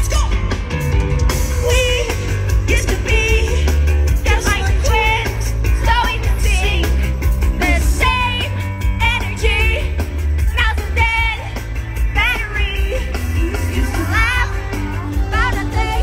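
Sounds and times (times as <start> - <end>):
pop backing track heavy bass: 0.0 - 16.0
woman singing with vibrato: 1.5 - 7.0, 7.6 - 11.6, 12.2 - 16.0.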